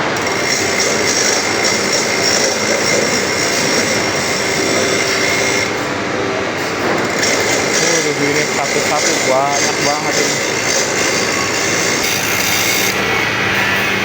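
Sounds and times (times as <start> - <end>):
electric grinder sharpening saw: 0.0 - 6.0, 6.6 - 14.0.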